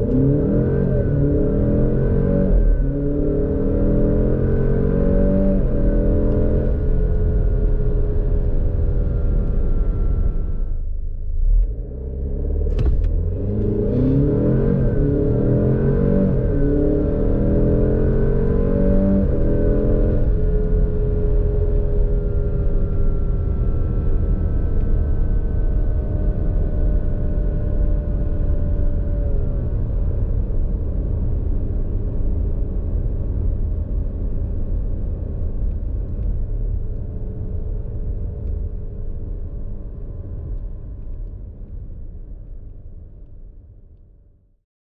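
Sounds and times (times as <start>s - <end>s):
car engine accelerating: 0.0s - 43.0s
low road rumble: 0.0s - 44.5s.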